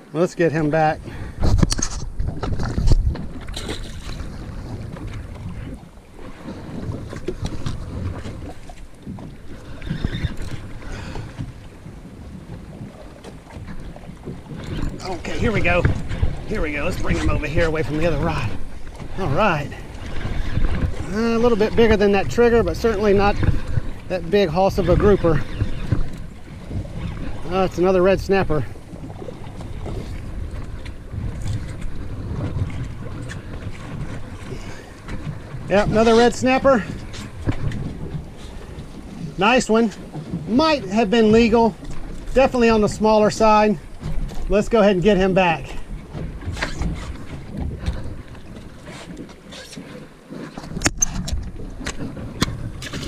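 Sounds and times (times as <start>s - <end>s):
wind buffeting microphone: 0.0s - 49.4s
water against boat hull: 0.0s - 53.0s.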